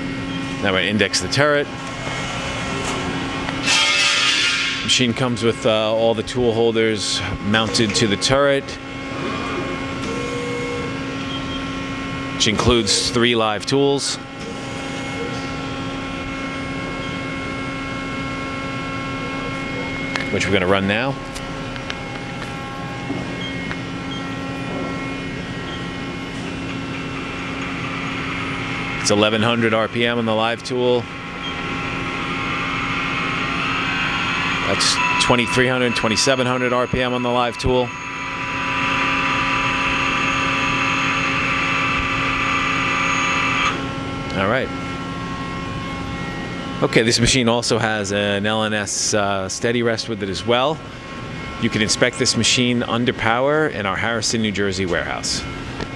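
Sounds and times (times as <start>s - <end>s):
machine tool humming: 0.0s - 12.4s, 14.3s - 46.8s.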